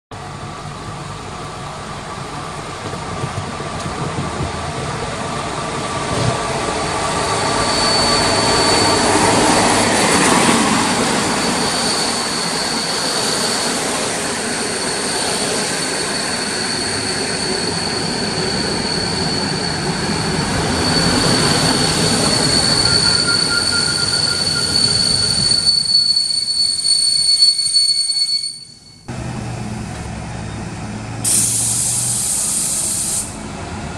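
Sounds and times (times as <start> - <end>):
train rumble: 0.1 - 25.8, 29.1 - 33.9
wheels squealing on rails: 0.6 - 29.2, 29.8 - 33.9.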